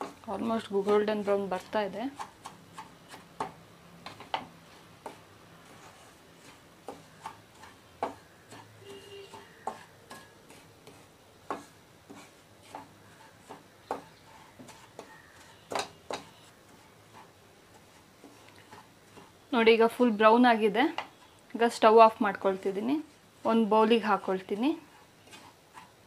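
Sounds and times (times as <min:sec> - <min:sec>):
wooden spatula scraping a pan: 0:00.0 - 0:03.6, 0:04.2 - 0:26.0.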